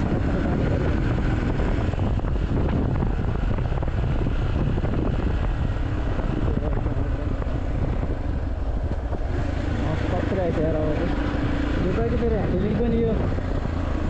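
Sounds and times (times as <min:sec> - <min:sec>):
wind noise on microphone: 0:00.0 - 0:09.8, 0:11.2 - 0:14.0
motorcycle engine rumble: 0:00.0 - 0:14.0.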